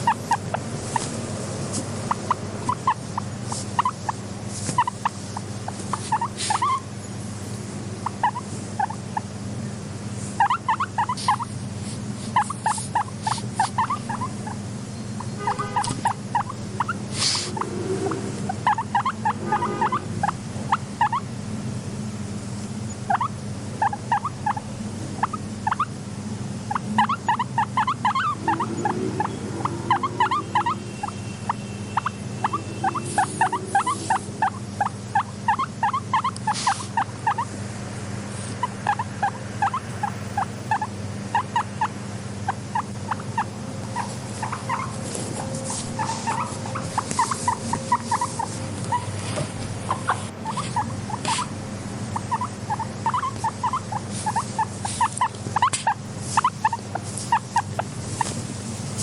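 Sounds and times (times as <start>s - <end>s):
guinea pig squeaking: 0.0s - 6.9s, 8.0s - 9.3s, 10.3s - 21.3s, 22.9s - 26.0s, 26.6s - 37.6s, 38.4s - 59.0s
steady low hum: 0.0s - 59.0s.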